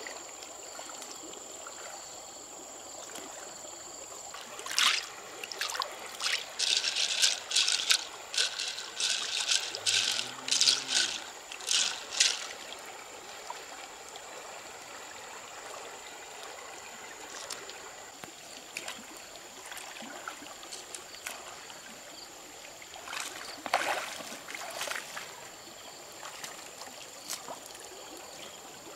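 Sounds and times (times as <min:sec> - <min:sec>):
river running over stones: 0:02.8 - 0:28.9
water splashes: 0:04.2 - 0:28.9.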